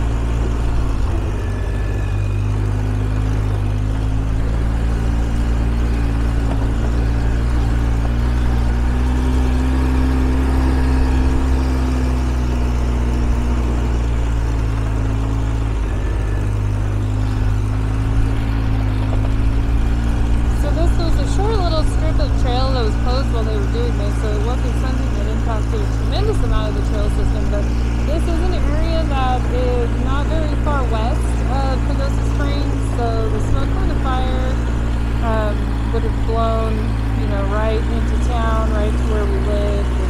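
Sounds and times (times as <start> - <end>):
atv engine running: 0.0 - 40.0.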